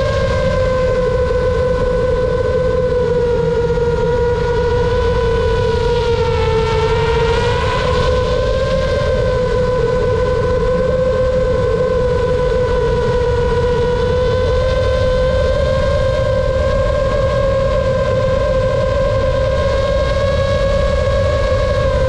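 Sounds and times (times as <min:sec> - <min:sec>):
constant low rush: 0:00.0 - 0:22.0
drone motors whining: 0:00.0 - 0:22.0.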